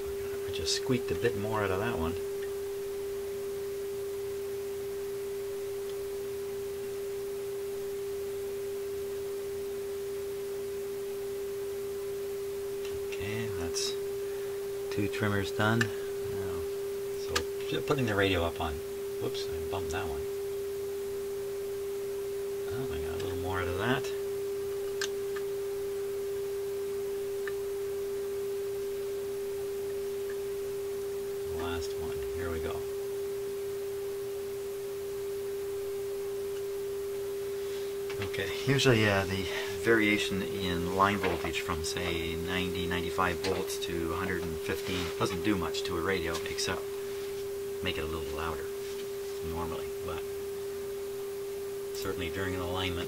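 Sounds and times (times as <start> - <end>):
steady test tone from radio speaker: 0.0 - 53.0.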